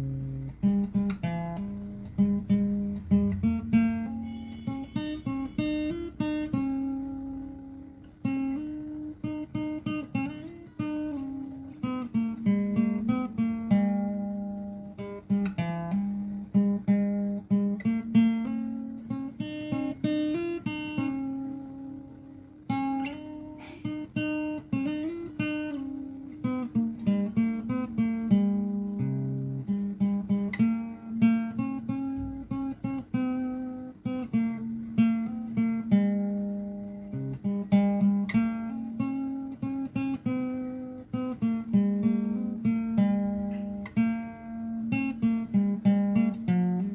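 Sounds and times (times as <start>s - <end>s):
acoustic guitar plucked notes: 0.0s - 46.9s.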